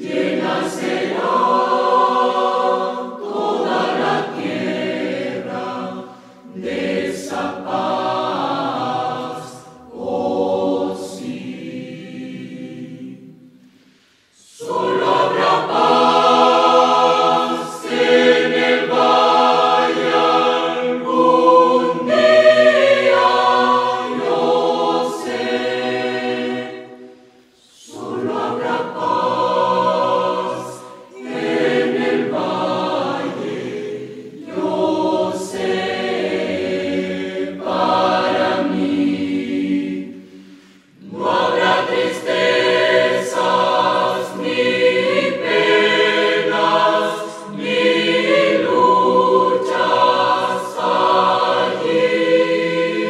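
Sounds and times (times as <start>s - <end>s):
youth choir singing a hymn: 0.0s - 13.6s, 14.4s - 53.0s.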